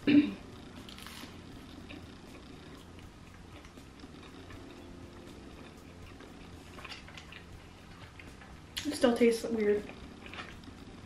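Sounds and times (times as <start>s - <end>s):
low steady hum: 0.0s - 11.0s
quiet chewing: 0.9s - 8.9s, 9.8s - 10.9s.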